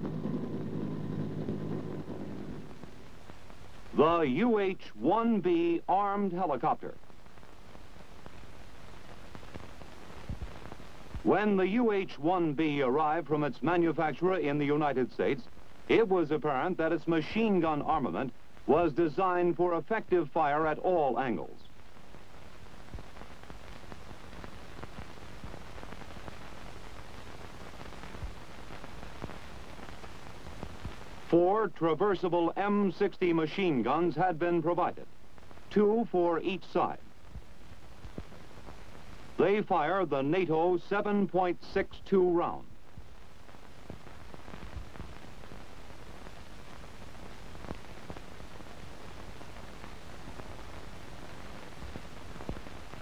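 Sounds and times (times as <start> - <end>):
film soundtrack hiss and crackles: 0.0 - 53.0.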